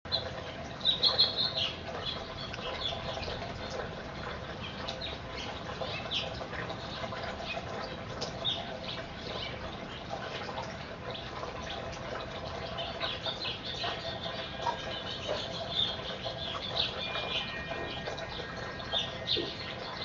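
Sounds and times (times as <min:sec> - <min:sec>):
small birds chirping: 0:00.1 - 0:10.3, 0:11.1 - 0:20.0.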